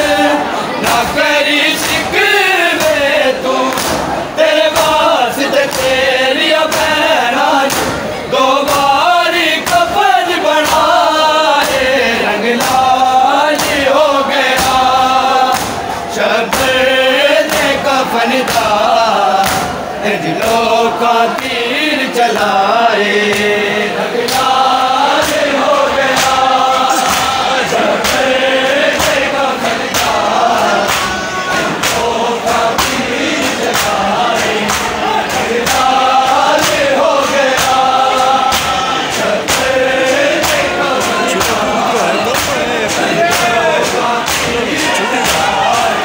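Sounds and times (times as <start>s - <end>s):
men chanting in unison: 0.0s - 46.0s
chest-beating slaps: 0.8s - 7.0s, 7.6s - 10.0s, 13.6s - 21.7s, 24.2s - 46.0s.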